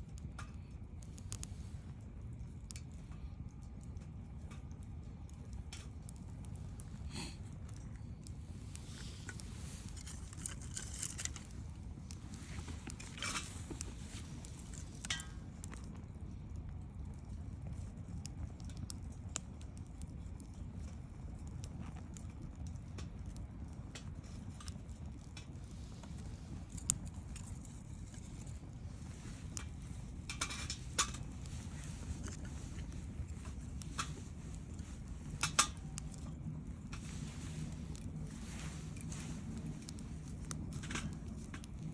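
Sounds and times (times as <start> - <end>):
bonfire low rumble: 0.0 - 41.9
burning wood crackling and popping: 0.0 - 41.9.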